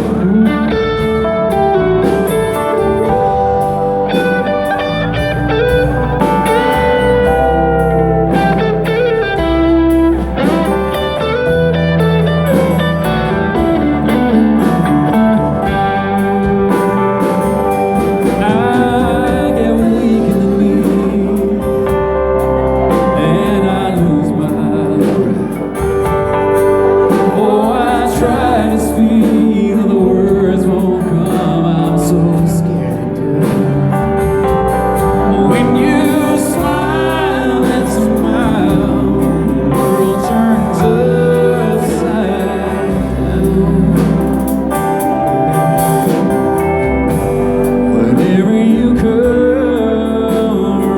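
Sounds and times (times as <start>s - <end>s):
bass: 0.0s - 50.9s
electric guitar lead: 0.0s - 50.9s
steady drum beat: 0.0s - 50.9s.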